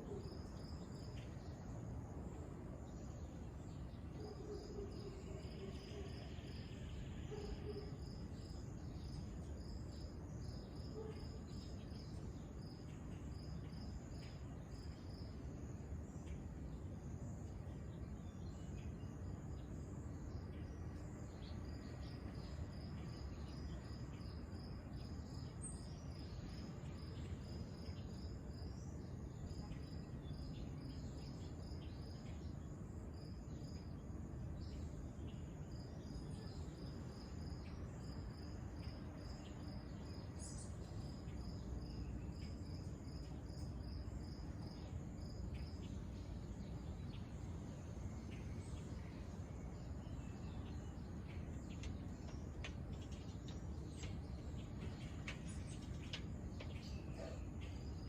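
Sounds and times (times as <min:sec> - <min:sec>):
insect chirping: 0:00.0 - 0:58.0.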